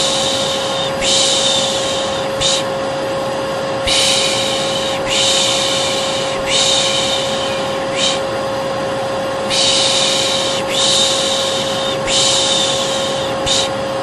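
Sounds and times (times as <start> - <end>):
person shushing: 0.0 - 2.7, 3.8 - 8.3, 9.5 - 13.8
vacuum cleaner humming: 0.0 - 14.0.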